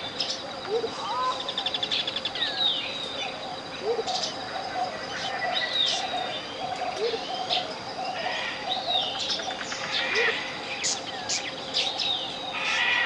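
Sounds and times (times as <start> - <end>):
birds whistled calls: 0.0 - 13.0.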